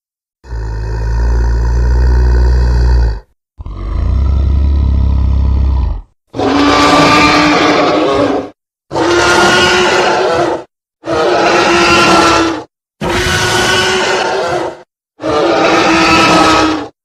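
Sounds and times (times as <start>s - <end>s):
deep creature roar: 0.4s - 17.0s
harsh bright creature roars: 0.4s - 17.0s.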